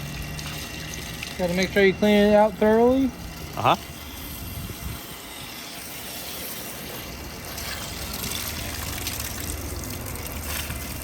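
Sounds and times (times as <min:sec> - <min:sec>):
running water rinsing: 0:00.0 - 0:11.0.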